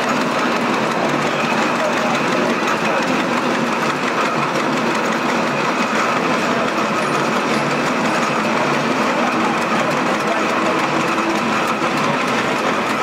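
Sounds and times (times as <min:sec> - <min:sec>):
steam traction engine clatter: 0:00.0 - 0:13.0.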